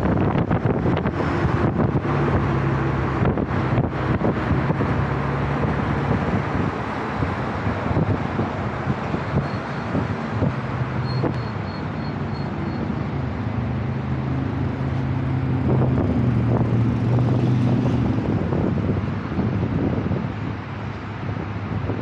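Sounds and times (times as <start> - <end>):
vehicle engine humming: 0.0 - 22.0
wind noise on microphone: 0.0 - 22.0.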